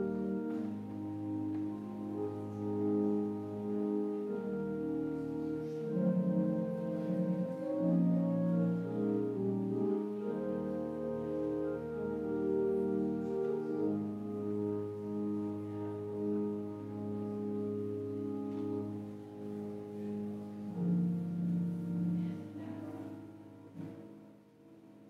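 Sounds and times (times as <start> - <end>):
church organ playing chords: 0.0 - 25.0.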